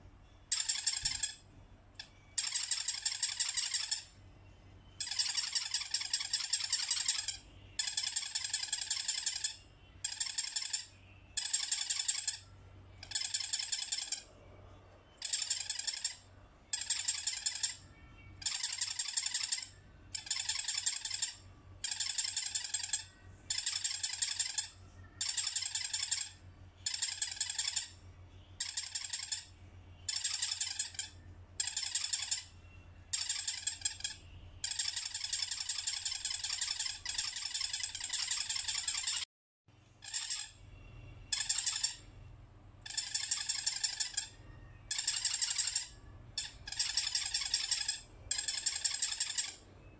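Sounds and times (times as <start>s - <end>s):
soft toy squeaking: 0.0s - 49.9s.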